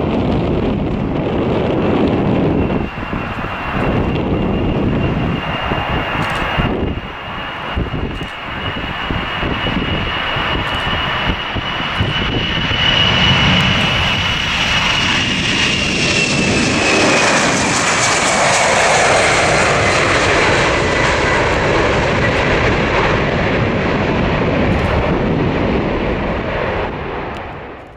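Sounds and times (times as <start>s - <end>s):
jet engines at takeoff: 0.0s - 27.9s.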